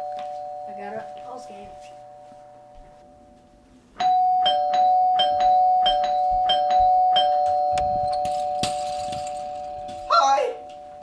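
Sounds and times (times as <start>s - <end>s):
two-tone doorbell chime: 0.0s - 3.4s, 4.0s - 11.0s.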